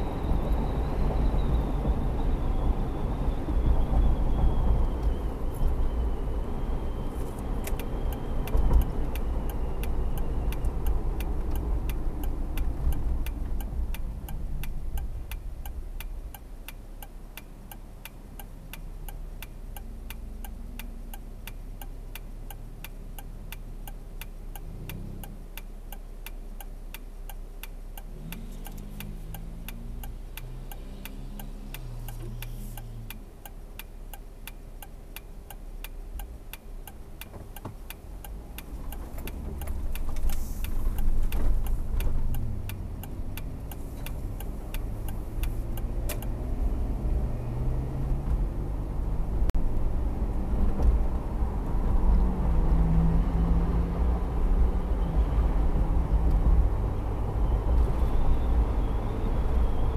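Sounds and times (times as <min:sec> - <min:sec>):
car road and engine noise: 0:00.0 - 0:59.9
turn signal ticking: 0:00.0 - 0:59.9.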